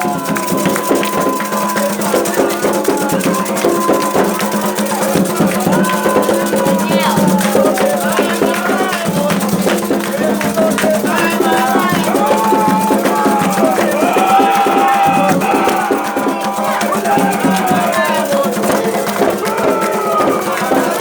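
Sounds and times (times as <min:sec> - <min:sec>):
percussion: 0:00.0 - 0:21.0
shaken rattle: 0:00.0 - 0:21.0
voices chanting: 0:00.0 - 0:21.0.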